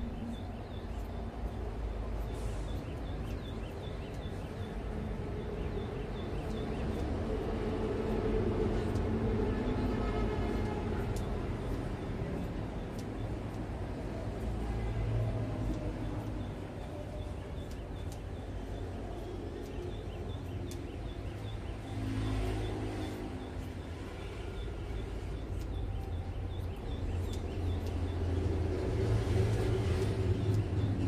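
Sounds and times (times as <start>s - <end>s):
scissors snipping: 5.8s - 31.0s.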